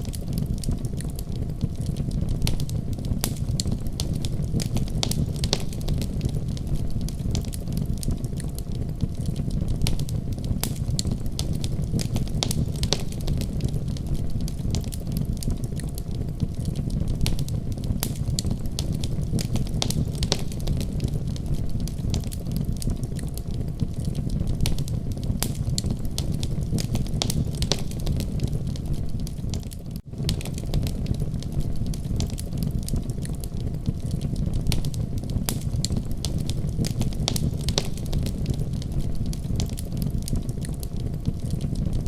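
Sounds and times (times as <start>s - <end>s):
fire crackling and popping: 0.0s - 42.0s
low rumble of burning: 0.0s - 42.0s.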